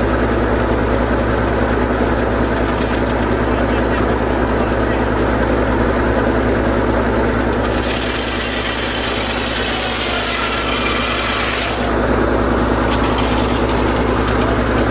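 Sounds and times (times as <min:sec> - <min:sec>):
sawmill engine running: 0:00.0 - 0:14.9
saw cutting wood: 0:01.2 - 0:05.1, 0:06.5 - 0:14.9.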